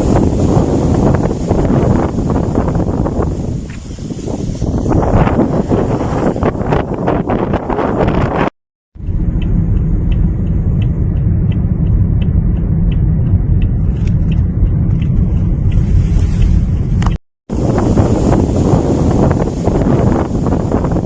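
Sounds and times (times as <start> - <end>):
heavy low rumble: 0.0 - 21.0
wind buffeting microphone: 0.0 - 21.0.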